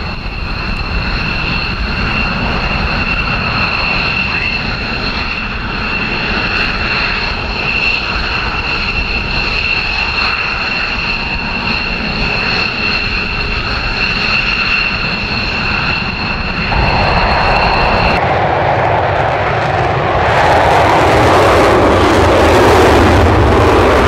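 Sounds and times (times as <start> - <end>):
jet engines idling: 0.0 - 24.0.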